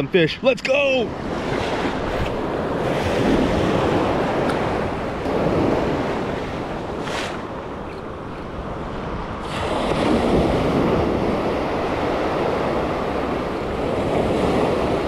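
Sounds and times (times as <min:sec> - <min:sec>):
ocean surf washing up beach: 0:00.0 - 0:15.0
wind on microphone: 0:01.0 - 0:15.0.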